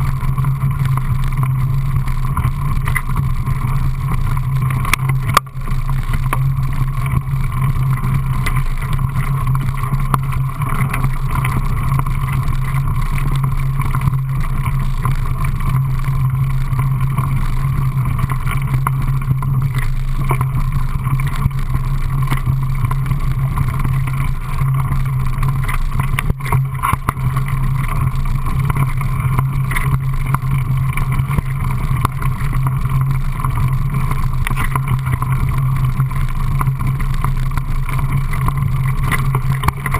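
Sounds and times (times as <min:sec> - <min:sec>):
bike rattling over bumps: 0:00.0 - 0:39.9.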